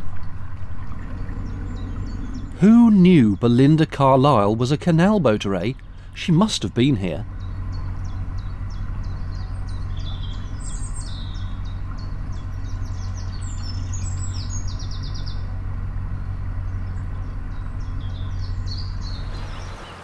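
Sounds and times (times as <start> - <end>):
boat engine throbbing: 0.0 - 20.0
birds chirping and singing: 0.5 - 20.0.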